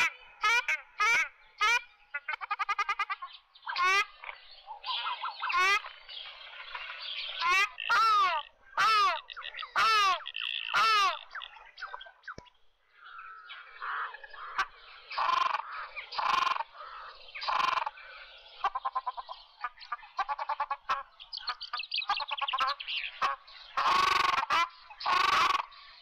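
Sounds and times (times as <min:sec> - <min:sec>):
ducks honking calls: 0:00.0 - 0:06.0, 0:06.6 - 0:12.2, 0:13.2 - 0:18.0, 0:18.6 - 0:25.7.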